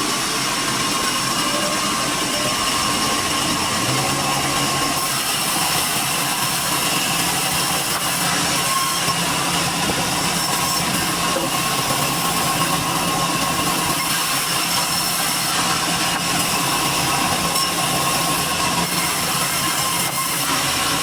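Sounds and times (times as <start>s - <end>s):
machinery whine: 0.0s - 21.0s
sawmill machinery running: 0.0s - 21.0s.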